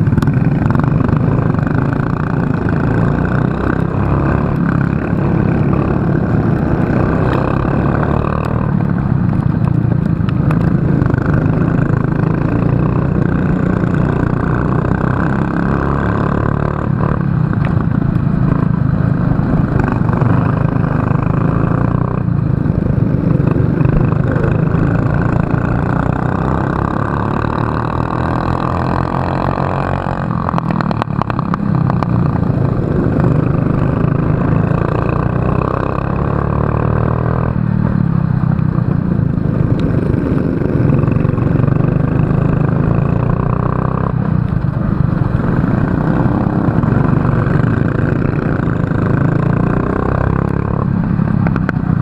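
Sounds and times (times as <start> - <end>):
kart engine revving: 0.0 - 38.3, 39.1 - 52.0.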